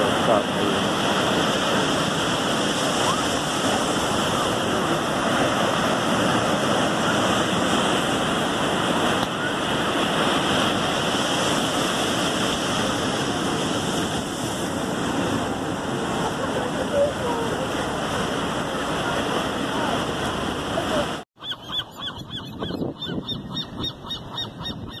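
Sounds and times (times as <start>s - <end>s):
ocean surf breaking on beach: 0.0s - 21.2s.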